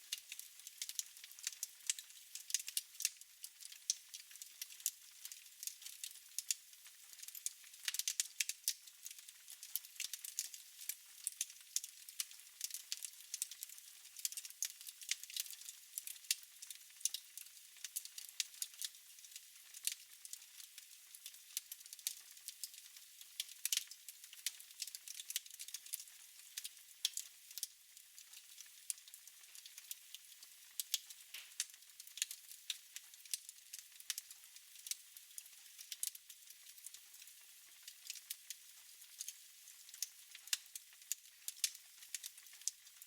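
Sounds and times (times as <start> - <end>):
wood fire crackling: 0.1 - 22.8, 23.4 - 43.0.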